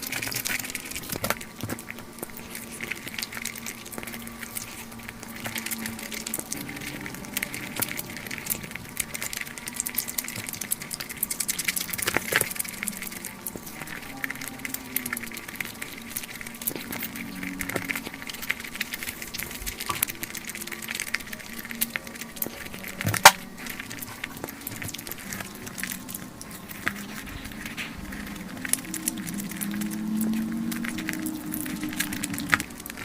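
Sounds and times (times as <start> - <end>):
crunching fried chicken: 0.0 - 33.0
faint steady hum: 0.0 - 33.0.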